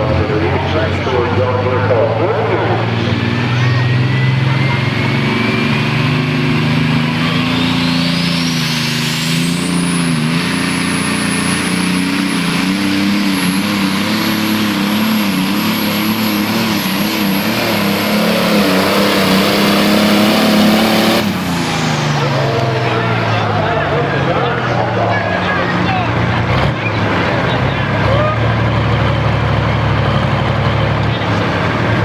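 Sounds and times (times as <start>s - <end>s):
tractor engine at full power: 0.0s - 32.0s
turbocharger whine: 0.0s - 32.0s.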